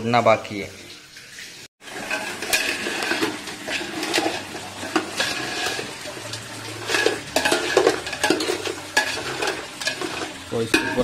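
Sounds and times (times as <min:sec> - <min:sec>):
metal spoon scraping metal pot: 0:01.9 - 0:11.0.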